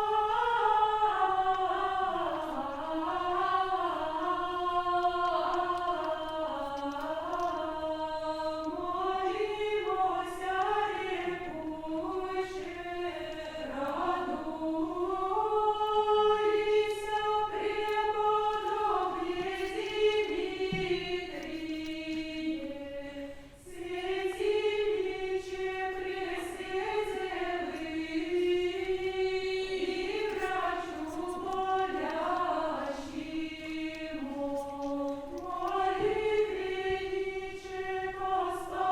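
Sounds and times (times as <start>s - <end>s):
choir chanting without instruments: 0.0s - 38.9s.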